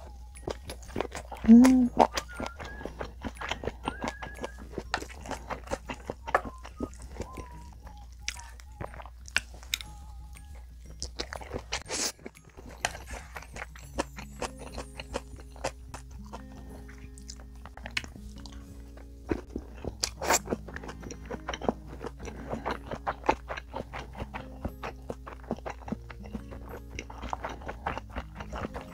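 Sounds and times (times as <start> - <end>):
close chewing with wet crunches: 0.0 - 28.9
soft background music: 0.0 - 28.9.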